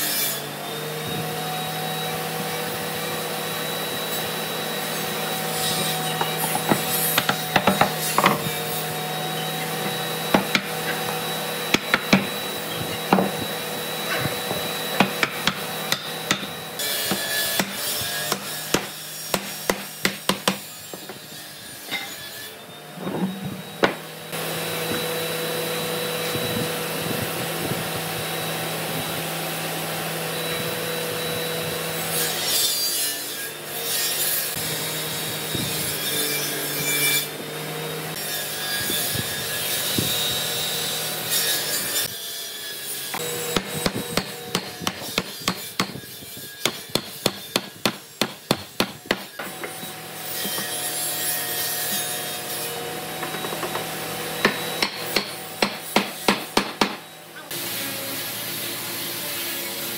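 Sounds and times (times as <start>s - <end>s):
woodworking tool motor hum: 0.0s - 59.9s.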